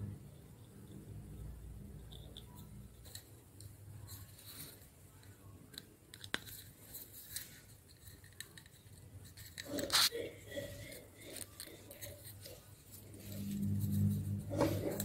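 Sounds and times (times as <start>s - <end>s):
hands rustling plastic and wires: 2.4s - 15.0s.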